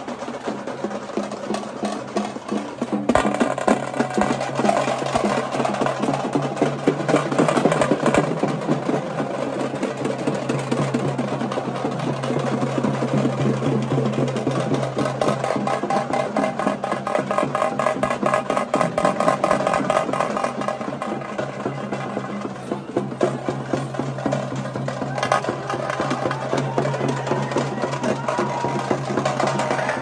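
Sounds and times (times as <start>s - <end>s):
band drumming fast: 0.0s - 30.0s.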